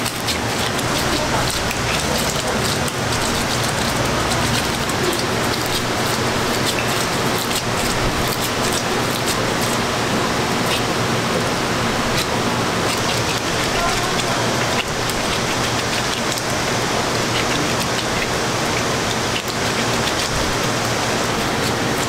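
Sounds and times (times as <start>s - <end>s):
hands rounding dough: 0.0s - 22.0s
kitchen background hiss: 0.0s - 22.0s.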